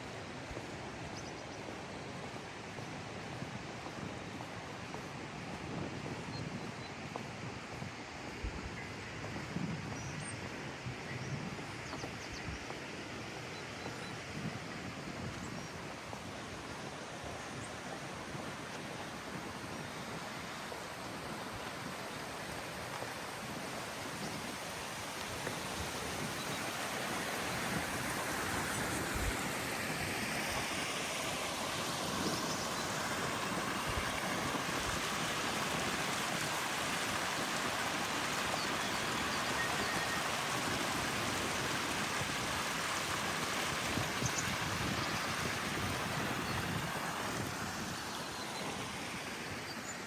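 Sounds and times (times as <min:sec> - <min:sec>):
mountain stream rushing: 0:00.0 - 0:50.0.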